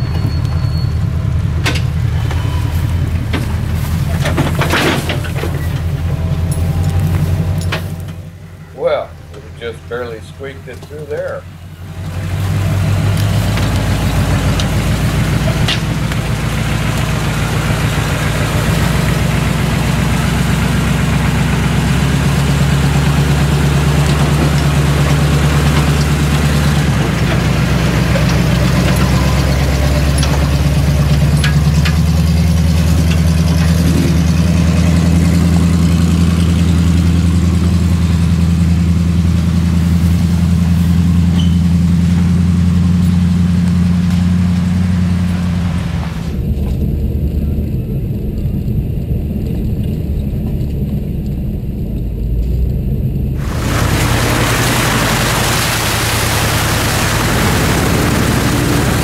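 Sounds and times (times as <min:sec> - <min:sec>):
truck engine running at low speed: 0:00.0 - 0:59.0.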